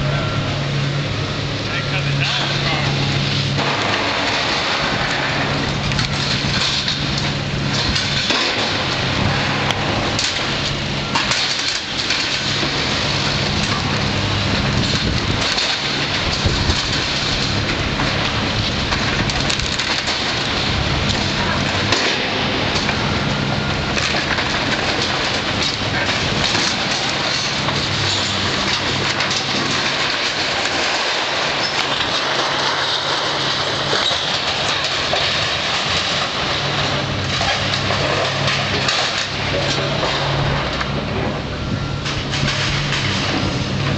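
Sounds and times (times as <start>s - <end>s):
diesel engine running: 0.0s - 43.9s
excavator and debris rushing noise: 0.0s - 43.9s
timber and metal crunching: 0.0s - 43.9s.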